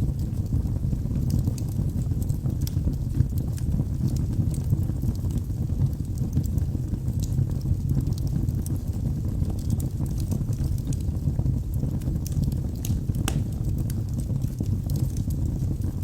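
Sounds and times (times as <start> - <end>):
fire crackles and pops: 0.0 - 16.0
logs burning in fireplace: 0.0 - 16.0.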